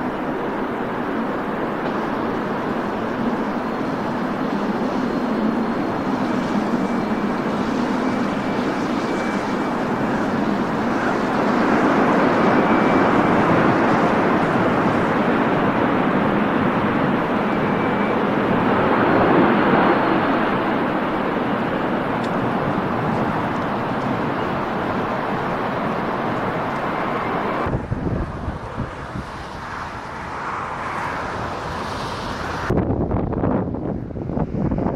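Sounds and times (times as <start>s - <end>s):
jet engine rush: 0.0s - 34.9s
wind noise: 0.0s - 34.9s.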